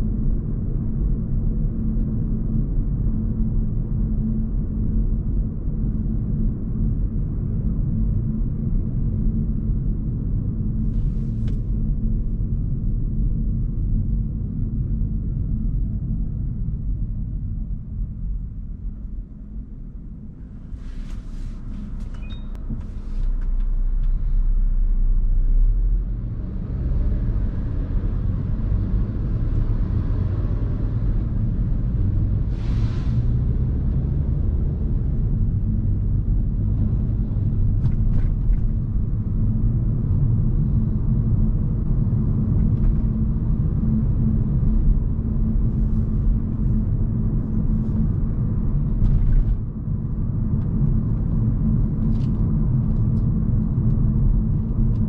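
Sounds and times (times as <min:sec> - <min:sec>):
road and tyre rumble: 0:00.0 - 0:55.0.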